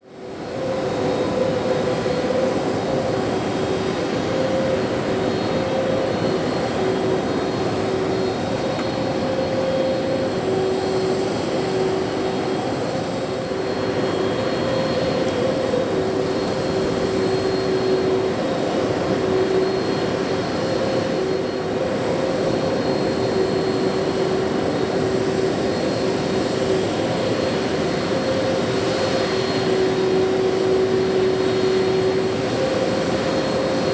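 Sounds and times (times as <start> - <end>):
aircraft engine running: 0.0 - 33.9.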